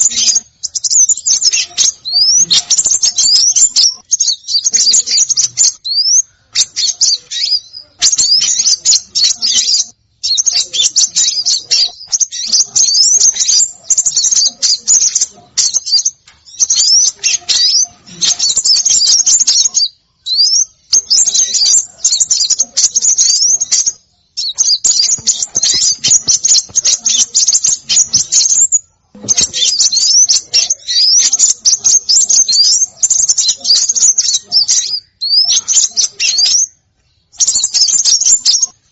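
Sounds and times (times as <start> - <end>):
songbirds chattering: 0.0 - 38.9.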